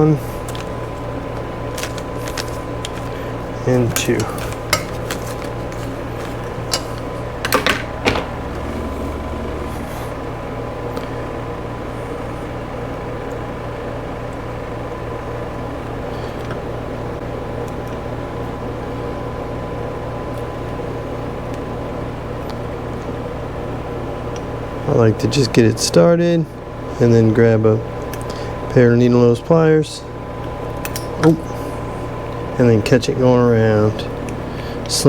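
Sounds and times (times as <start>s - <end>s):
fan humming: 0.0s - 20.0s, 22.2s - 35.0s.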